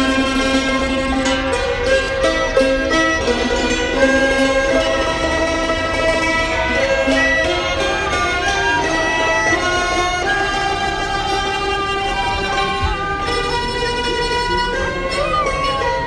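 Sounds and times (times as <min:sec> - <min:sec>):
bowed fiddles gliding melody: 0:00.0 - 0:16.0
hammered dulcimers: 0:00.0 - 0:16.0.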